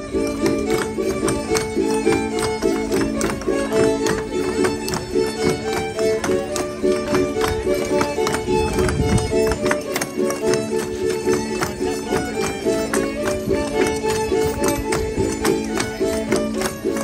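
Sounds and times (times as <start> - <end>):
feet stamping on stage: 0.0 - 17.0
violin folk dance tune: 0.0 - 17.0.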